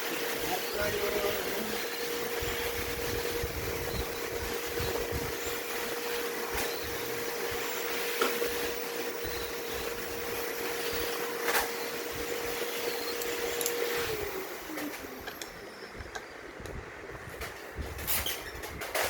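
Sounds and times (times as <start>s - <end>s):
machine humming and whirring: 0.0s - 19.0s.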